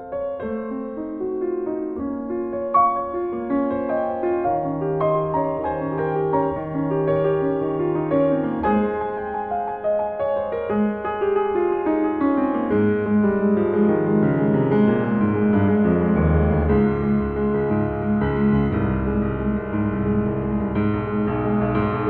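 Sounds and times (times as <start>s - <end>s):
grand piano playing: 0.0s - 22.0s.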